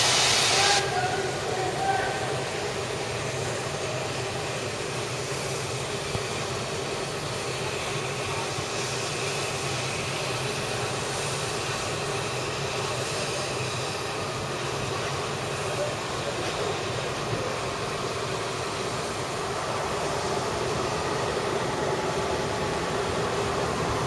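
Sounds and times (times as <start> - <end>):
steam train running rumble: 0.0 - 24.0.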